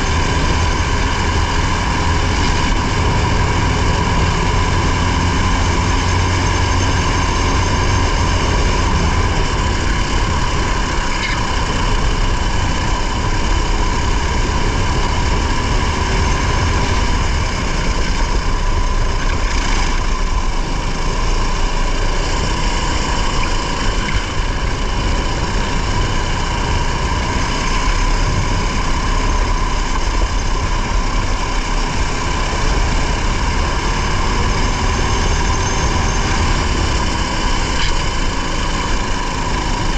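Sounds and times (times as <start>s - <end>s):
race car engine rumbling: 0.0s - 39.9s
road noise: 0.0s - 39.9s.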